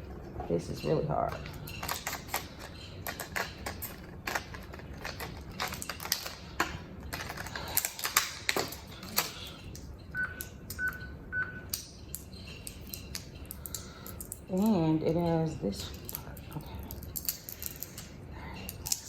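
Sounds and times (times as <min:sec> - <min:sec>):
plastic packaging clicking and crackling: 0:01.3 - 0:11.0, 0:11.7 - 0:19.0.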